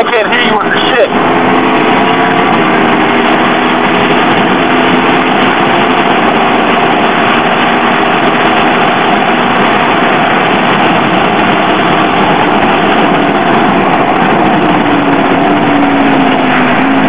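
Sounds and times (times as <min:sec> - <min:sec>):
motorcycle engine hum: 0:00.0 - 0:17.0
wind rushing: 0:00.0 - 0:17.0.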